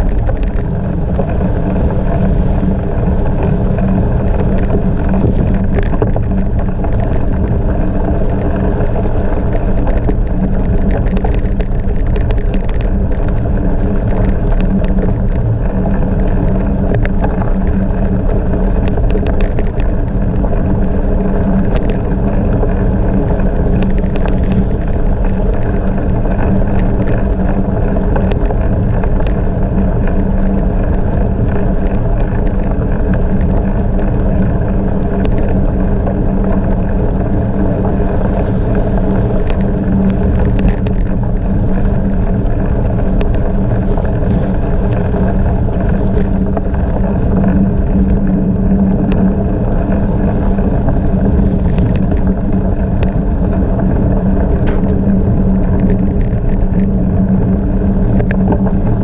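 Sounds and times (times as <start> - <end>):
small clicks and crackles: 0.0 - 59.0
tyres rolling on gravel: 0.0 - 59.0
wind buffeting microphone: 0.0 - 59.0.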